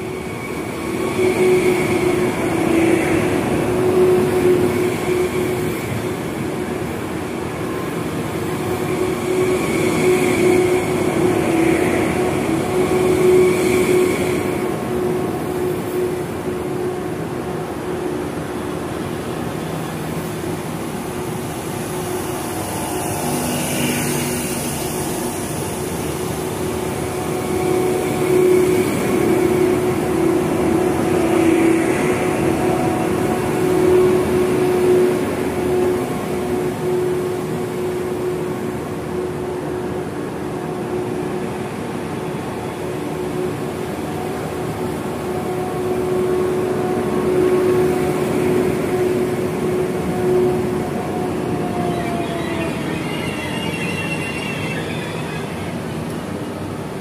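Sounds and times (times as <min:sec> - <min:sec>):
electric train rolling past: 0:00.0 - 0:57.0.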